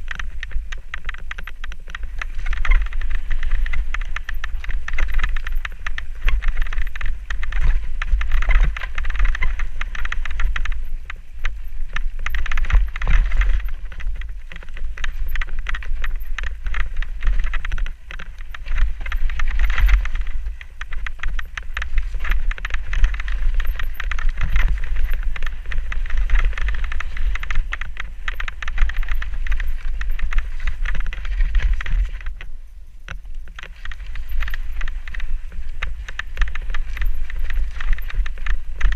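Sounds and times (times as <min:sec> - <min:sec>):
bike rattling over dirt trail: 0:00.0 - 0:38.9
wind buffeting on microphone: 0:00.0 - 0:38.9.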